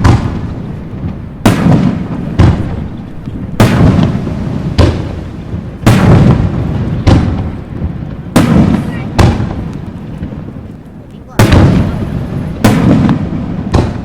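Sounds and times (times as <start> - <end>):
fireworks booming with echo: 0.0 - 14.0.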